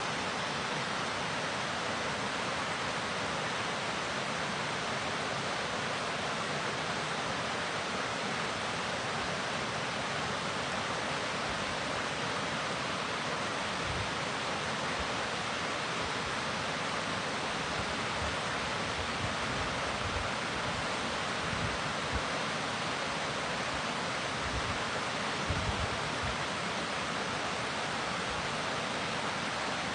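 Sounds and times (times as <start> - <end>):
water rushing: 0.0 - 29.9.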